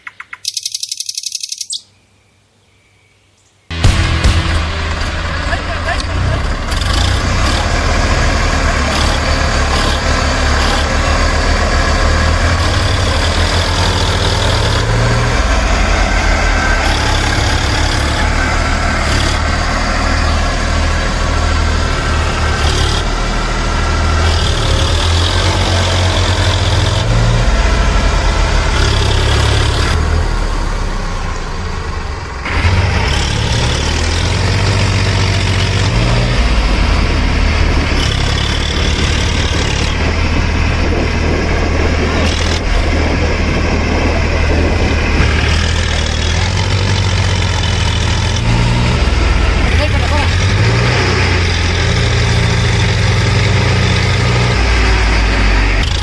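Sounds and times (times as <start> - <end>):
engine running with low rumble: 3.7 - 56.0.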